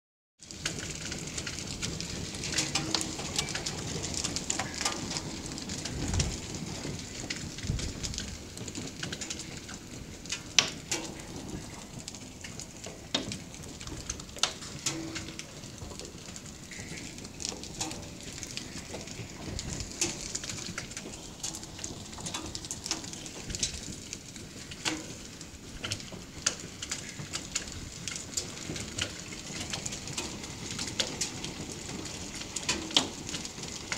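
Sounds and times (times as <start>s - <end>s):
hailstones ticking on ground: 0.4s - 33.9s
rain hissing on concrete: 0.4s - 33.9s.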